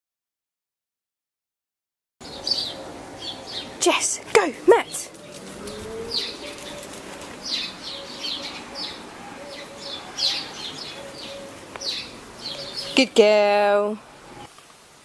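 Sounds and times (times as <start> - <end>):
small birds chirping: 2.2 - 14.6.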